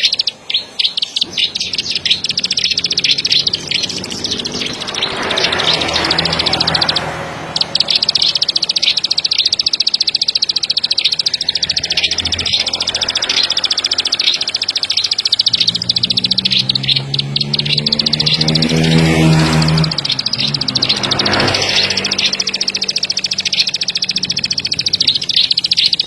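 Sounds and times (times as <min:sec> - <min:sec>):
bird singing rapid high notes: 0:00.0 - 0:26.0.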